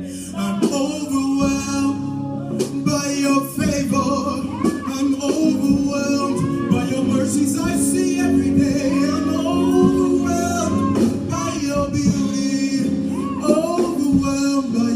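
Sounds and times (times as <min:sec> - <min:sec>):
band playing chords: 0:00.0 - 0:14.9
voices singing praise song: 0:00.0 - 0:14.9
drum hits: 0:02.6 - 0:14.9.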